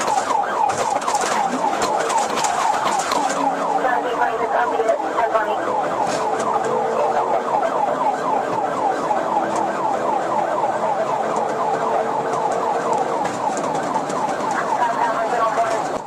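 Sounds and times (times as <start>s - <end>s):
police siren yelping: 0.0s - 16.0s.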